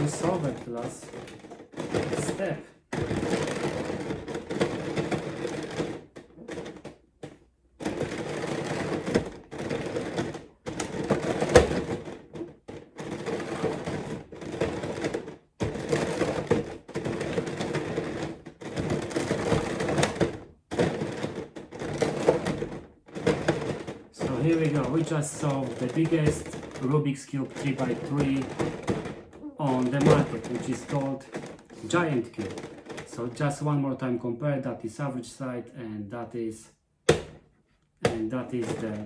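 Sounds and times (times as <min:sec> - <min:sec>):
puzzle cube clacking and scraping: 0:00.0 - 0:34.1, 0:38.0 - 0:39.0.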